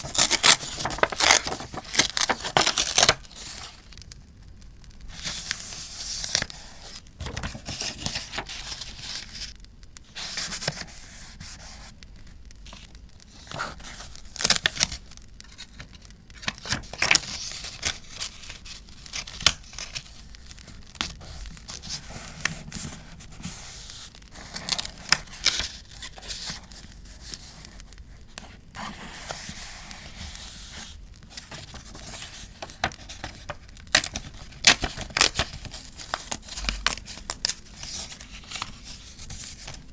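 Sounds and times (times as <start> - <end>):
paper tearing and rustling: 0.0 - 3.9, 5.1 - 9.5, 12.7 - 39.9.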